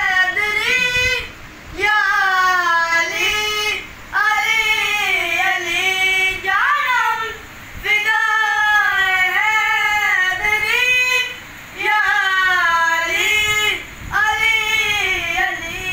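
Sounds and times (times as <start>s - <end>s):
boy singing unaccompanied: 0.0s - 15.9s.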